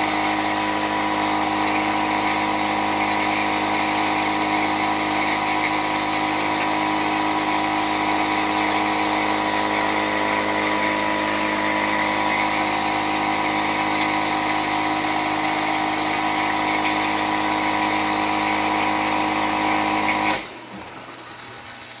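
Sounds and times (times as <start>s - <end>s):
dishwasher whining: 0.0s - 22.0s.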